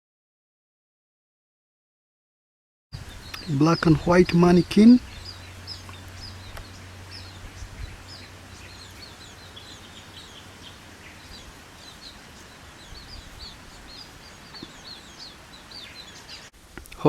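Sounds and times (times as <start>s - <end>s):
songbirds chirping: 3.0s - 17.0s.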